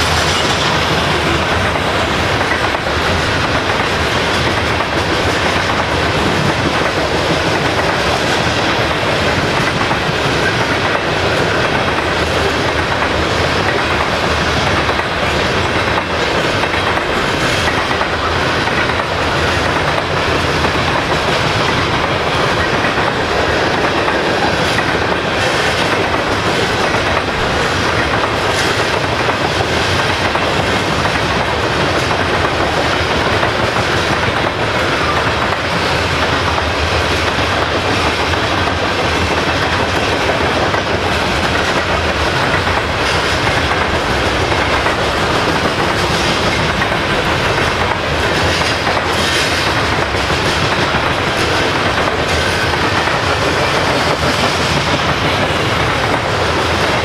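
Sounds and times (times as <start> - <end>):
steel wheels on rail: 0.0 - 57.0
wheels clacking over rail joints: 0.0 - 57.0.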